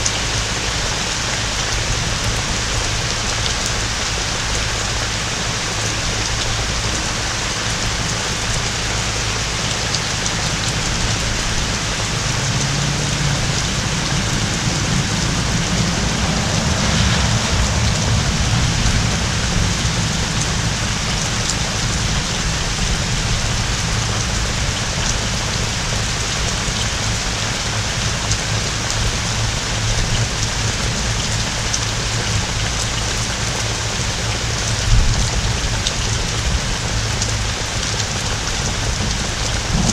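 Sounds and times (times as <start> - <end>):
heavy rain pouring: 0.0 - 39.9
distant thunder rumble: 1.4 - 32.9, 33.5 - 39.9.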